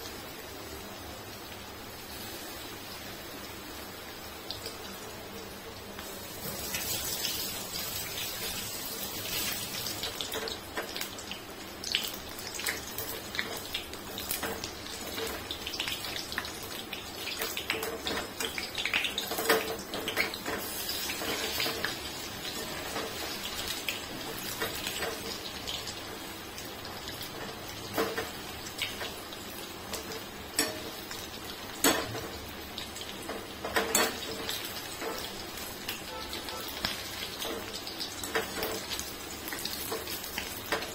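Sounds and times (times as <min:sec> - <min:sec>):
chicken deep-frying in oil: 0:00.0 - 0:40.9.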